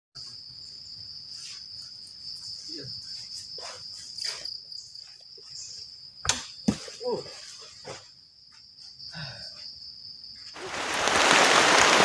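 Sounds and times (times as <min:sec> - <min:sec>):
insects buzzing: 0:00.2 - 0:12.0.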